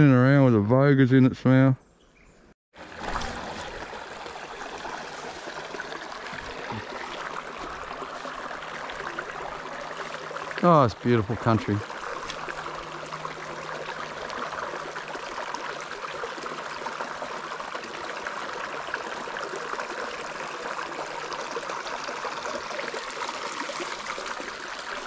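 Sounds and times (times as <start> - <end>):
creek water trickling: 2.8 - 25.0.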